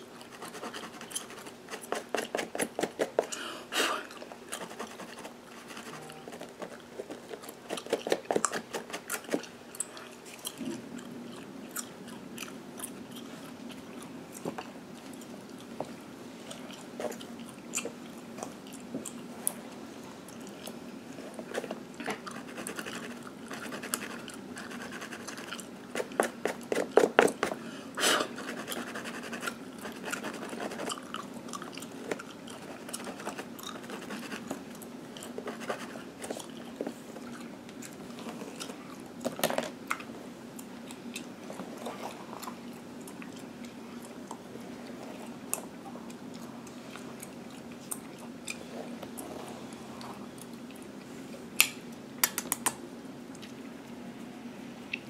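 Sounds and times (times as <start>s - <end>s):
gum chewing and smacking: 0.1s - 27.5s, 28.4s - 51.1s.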